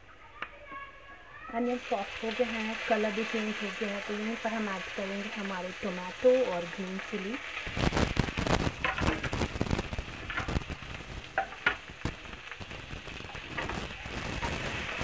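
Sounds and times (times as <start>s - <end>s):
vegetables sizzling in hot oil: 1.4s - 15.0s.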